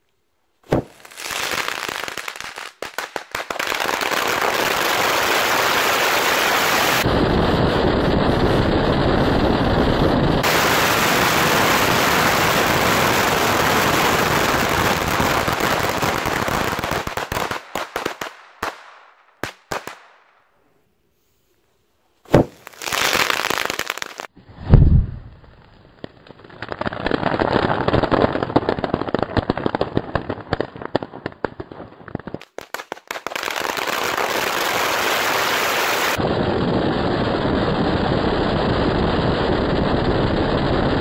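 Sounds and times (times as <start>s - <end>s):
firecrackers crackling: 0.6s - 20.5s, 22.3s - 41.0s.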